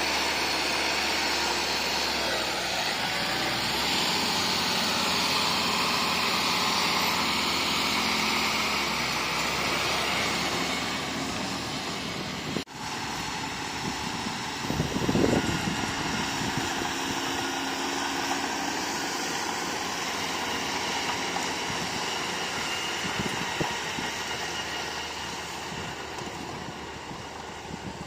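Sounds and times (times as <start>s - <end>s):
bulldozer diesel engine: 0.0s - 28.0s.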